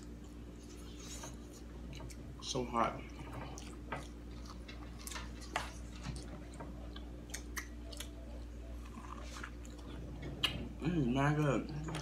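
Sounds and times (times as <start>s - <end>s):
crunching and chewing corn: 0.0s - 10.6s.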